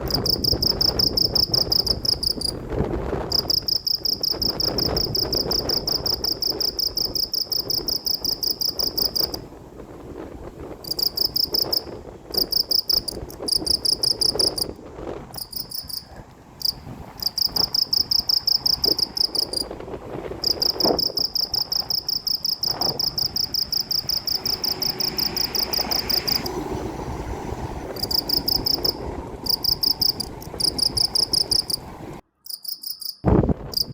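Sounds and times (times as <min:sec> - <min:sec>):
cricket chirping: 0:00.1 - 0:02.6, 0:03.3 - 0:09.4, 0:10.9 - 0:14.7, 0:15.4 - 0:19.7, 0:20.4 - 0:26.6, 0:28.0 - 0:33.9.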